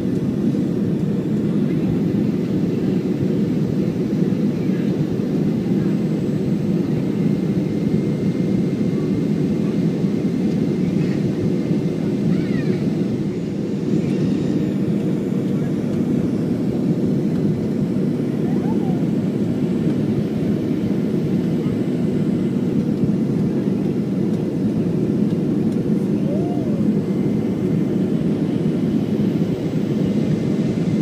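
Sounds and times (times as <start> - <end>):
jet engines humming: 0.0 - 31.0.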